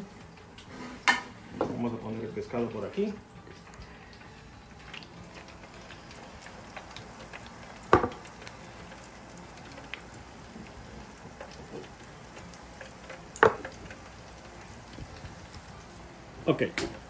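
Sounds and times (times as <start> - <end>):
oil bubbling in deep fryer: 0.0 - 17.0.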